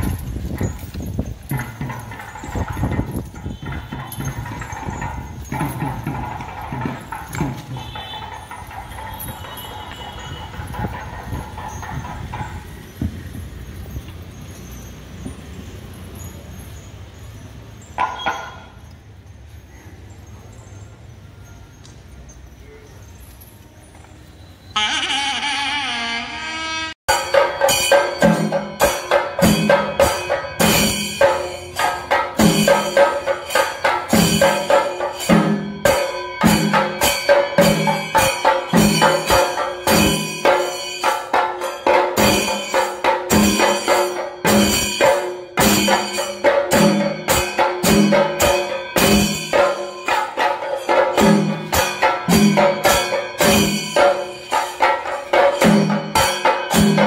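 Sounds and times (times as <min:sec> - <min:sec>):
percussion ensemble of drums: 0:00.0 - 0:19.4, 0:27.1 - 0:57.0.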